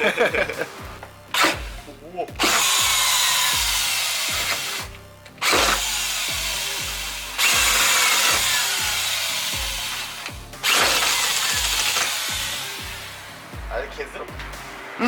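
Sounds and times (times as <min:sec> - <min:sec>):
background music with beat: 0:00.0 - 0:15.0
power drill running: 0:01.3 - 0:13.6.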